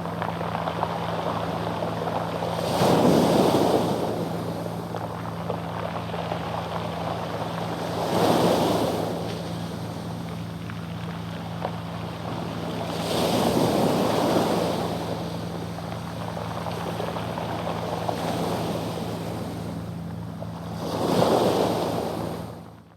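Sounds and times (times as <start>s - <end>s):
waves on pebble beach: 0.0s - 10.5s, 12.4s - 20.0s, 20.6s - 22.5s
stones rolling in the wash: 0.0s - 21.7s
boat engine drone: 0.0s - 22.9s.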